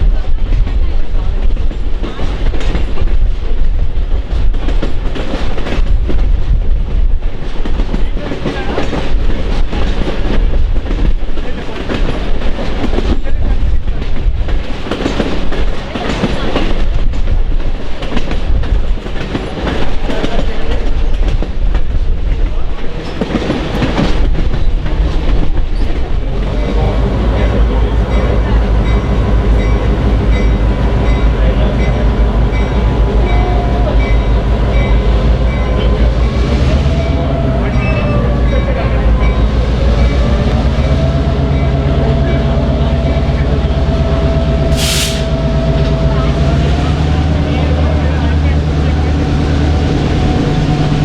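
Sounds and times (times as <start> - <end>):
train wheels clattering on rails: 0.0 - 51.0.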